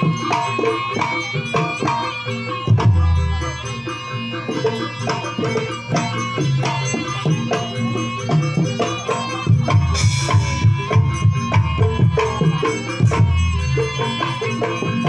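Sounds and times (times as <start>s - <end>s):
hand drums beating: 0.0s - 15.0s
ringing metal tones: 0.0s - 15.0s.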